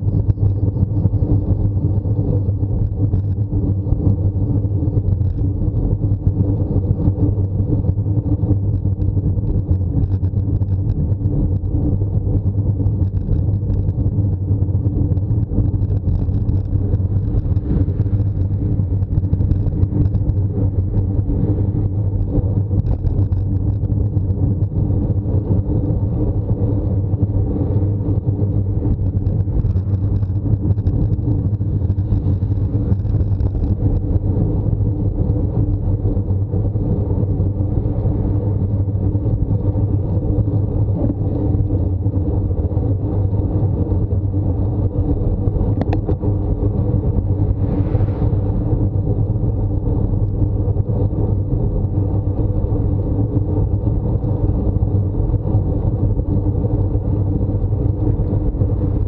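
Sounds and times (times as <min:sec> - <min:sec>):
steady low hum: 0:00.0 - 0:59.0
wind and road noise: 0:00.0 - 0:59.0.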